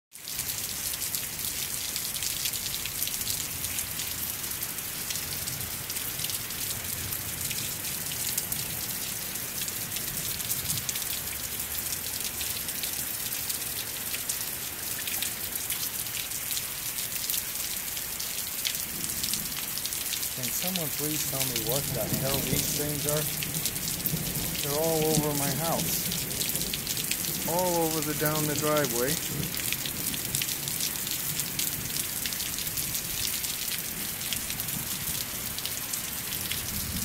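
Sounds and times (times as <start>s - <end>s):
rain falling on concrete: 0.1s - 37.0s.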